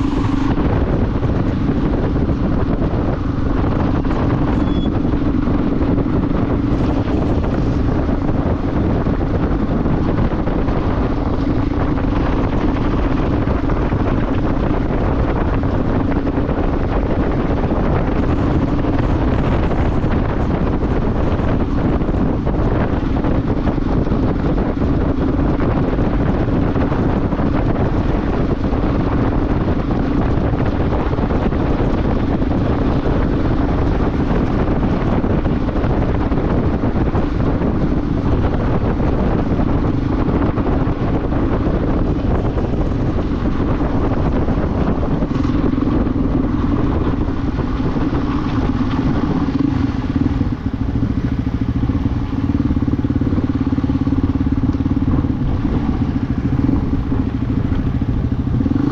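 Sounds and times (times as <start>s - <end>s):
motorcycle engine running: 0.0s - 58.9s
wind and road noise: 0.0s - 58.9s.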